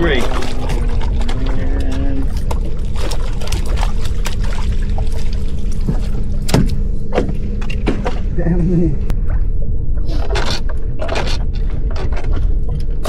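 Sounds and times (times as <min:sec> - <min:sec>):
steady low rumble: 0:00.0 - 0:13.0
water splashing against boat: 0:00.0 - 0:13.0.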